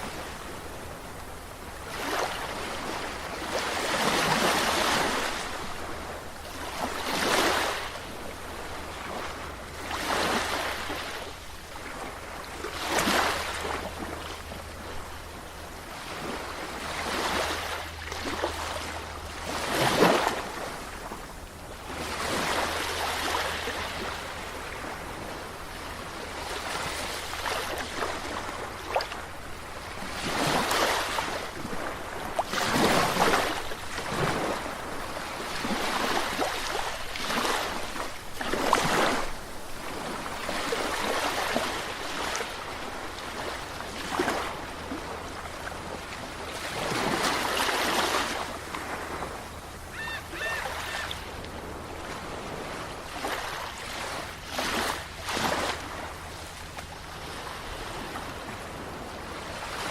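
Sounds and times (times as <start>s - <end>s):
sea waves breaking: 0.0s - 59.9s.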